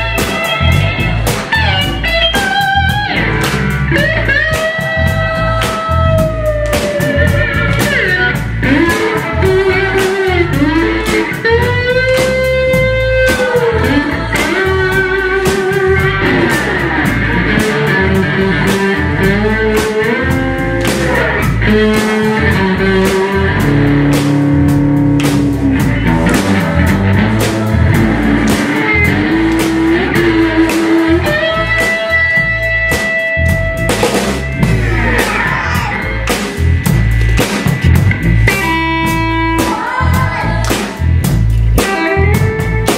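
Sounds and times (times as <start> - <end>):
electric guitar solo: 0.0 - 33.8, 38.5 - 41.0, 41.8 - 42.9
rock band playing: 0.0 - 42.9.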